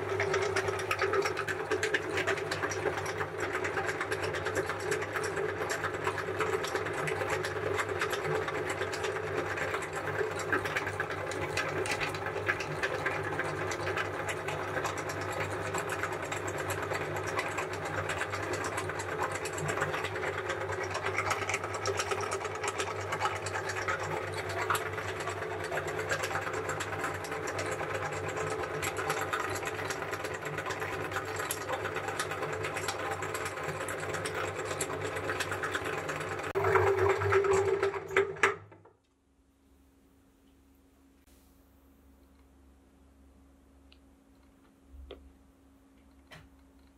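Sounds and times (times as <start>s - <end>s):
meat grinder motor hum and rattle: 0.0s - 38.9s.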